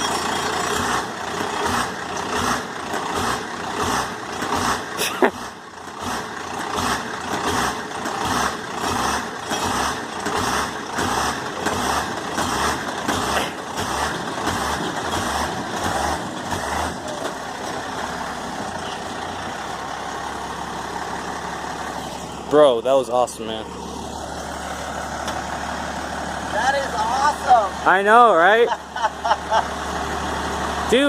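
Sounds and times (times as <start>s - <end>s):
diesel engine idling: 0.0s - 31.0s
diesel truck engine pulsing: 0.0s - 31.0s.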